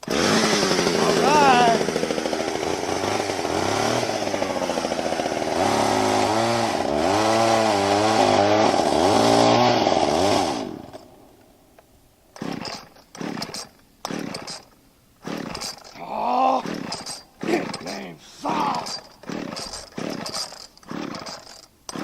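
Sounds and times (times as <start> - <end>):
chainsaw engine revving: 0.0 - 11.3, 12.3 - 22.0.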